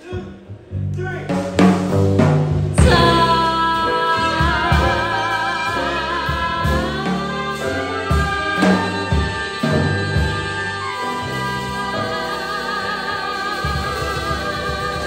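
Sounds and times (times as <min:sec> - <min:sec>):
electric bass: 0:00.0 - 0:15.0
drum kit: 0:00.1 - 0:15.0
person singing: 0:02.8 - 0:15.0
saxophone: 0:02.8 - 0:15.0
trumpet: 0:02.8 - 0:15.0.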